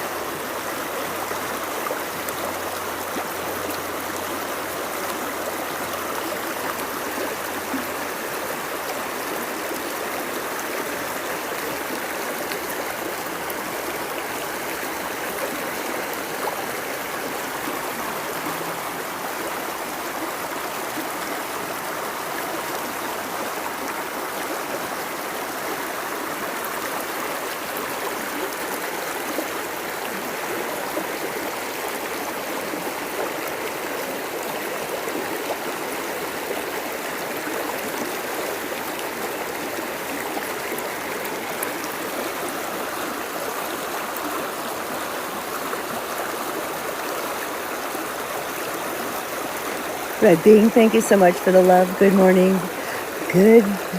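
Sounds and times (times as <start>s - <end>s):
river water rushing and gurgling: 0.0s - 53.9s.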